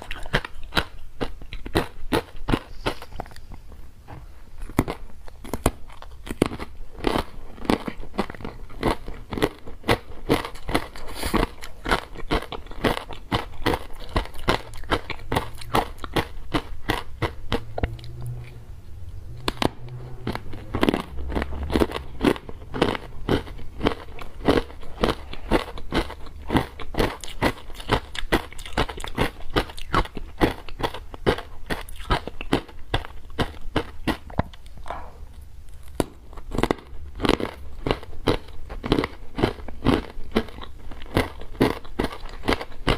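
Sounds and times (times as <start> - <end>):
ice being chewed: 0.0 - 18.3, 19.4 - 34.8, 35.9 - 42.9.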